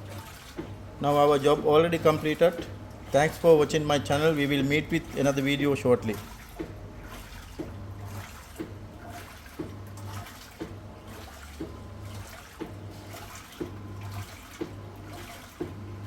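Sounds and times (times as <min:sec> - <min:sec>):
washing machine motor humming: 0:00.0 - 0:16.0
water sloshing in washing machine: 0:00.0 - 0:16.0.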